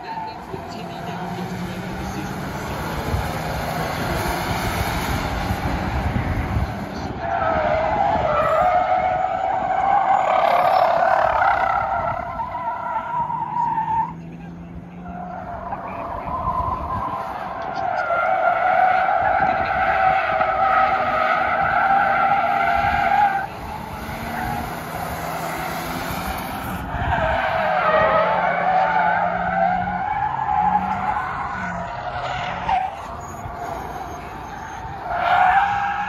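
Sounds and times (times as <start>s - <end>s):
car tires squealing: 0.0s - 36.0s.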